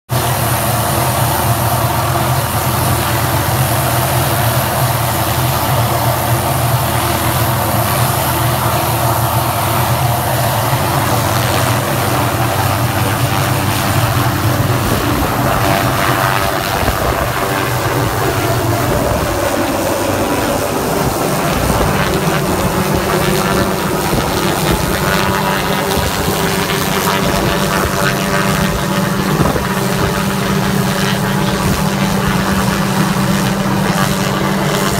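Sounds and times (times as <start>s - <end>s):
helicopter running: 0.1s - 34.9s.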